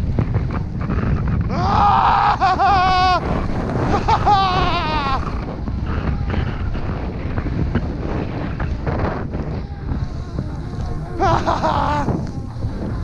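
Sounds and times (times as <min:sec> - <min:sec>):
wind on microphone: 0:00.0 - 0:13.0
skis scraping on snow: 0:02.5 - 0:13.0.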